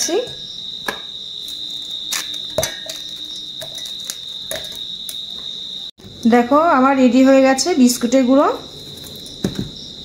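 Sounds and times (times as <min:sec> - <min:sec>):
cricket trilling: 0:00.0 - 0:10.0.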